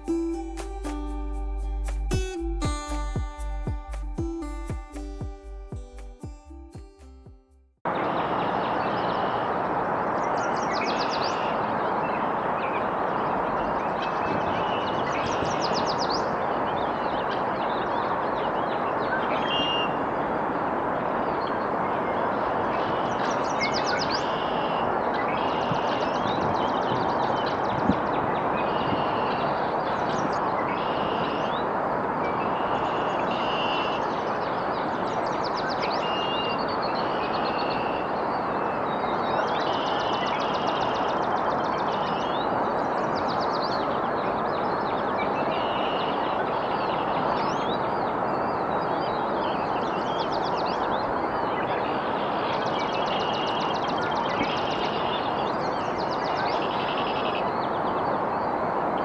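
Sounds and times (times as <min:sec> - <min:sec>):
songbirds chirping and trilling: 0:08.0 - 0:20.4, 0:21.2 - 0:59.0.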